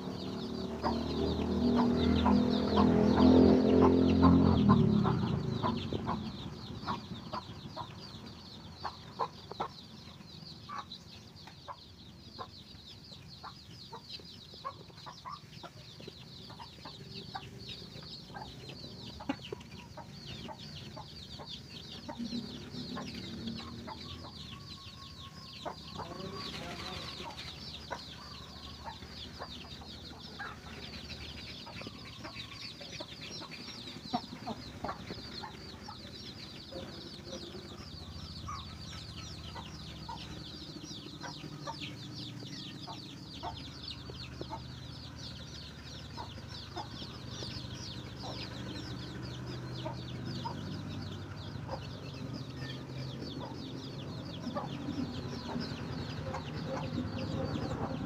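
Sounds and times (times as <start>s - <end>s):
chicks peeping: 0.0s - 58.0s
hen clucking: 0.0s - 58.0s.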